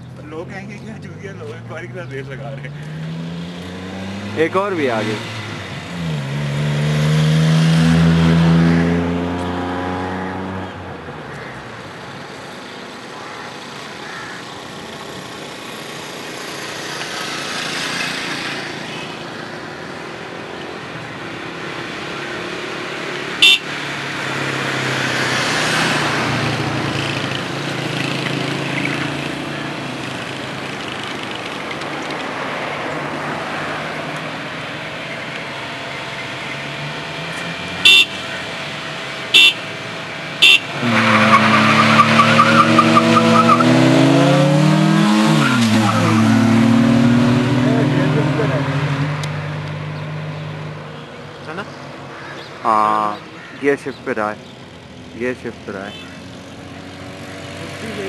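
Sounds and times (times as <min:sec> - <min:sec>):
car engines revving: 0:00.0 - 0:58.0
car accelerating: 0:00.3 - 0:11.1, 0:15.0 - 0:53.2.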